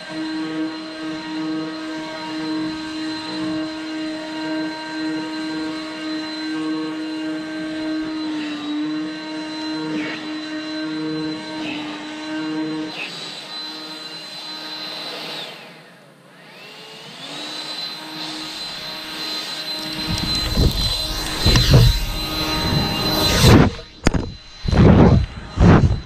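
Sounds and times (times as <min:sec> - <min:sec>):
leaf blower humming and whining: 0:00.0 - 0:26.0.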